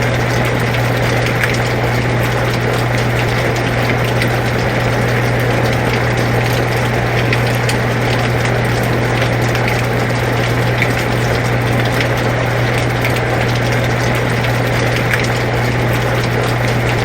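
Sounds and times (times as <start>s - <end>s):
air conditioner humming: 0.0s - 17.0s
faint drips: 0.0s - 17.0s
rain falling: 0.0s - 17.0s.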